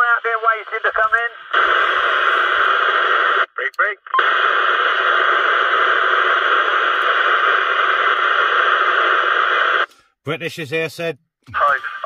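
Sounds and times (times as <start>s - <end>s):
radio static hiss: 0.0s - 9.9s, 10.5s - 12.0s.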